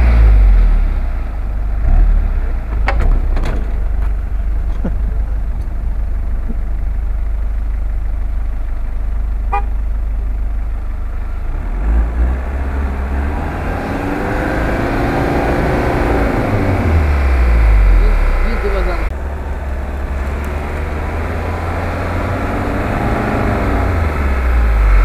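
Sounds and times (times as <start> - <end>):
off-road engine rumbling and revving: 0.0 - 25.0.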